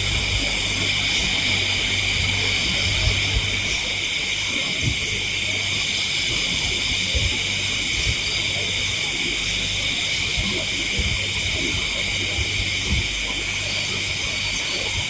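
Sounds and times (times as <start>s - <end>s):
chorus of night insects: 0.0s - 15.0s.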